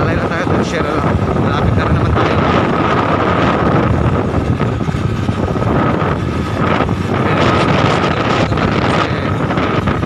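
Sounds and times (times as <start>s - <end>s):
motorcycle engine running: 0.0s - 10.0s
wind noise on microphone: 0.0s - 10.0s.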